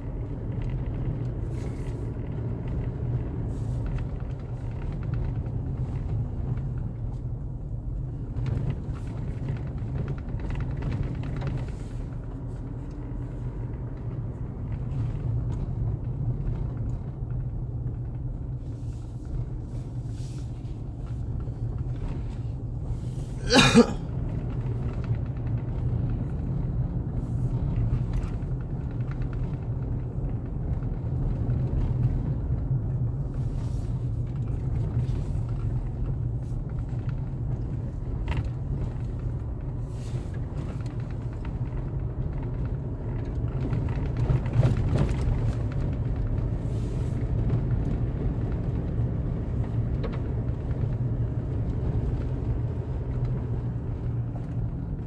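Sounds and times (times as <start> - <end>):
vehicle rumble on road: 0.0 - 55.0.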